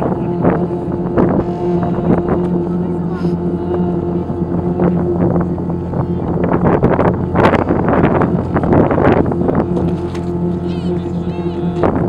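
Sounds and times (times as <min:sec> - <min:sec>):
synthesizer drone: 0:00.0 - 0:12.0
wind buffeting microphone: 0:00.0 - 0:12.0.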